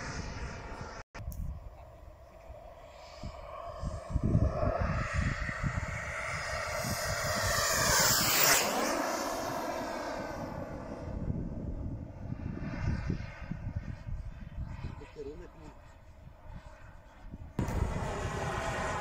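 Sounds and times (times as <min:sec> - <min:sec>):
model jet turbine whining: 0:02.4 - 0:19.0.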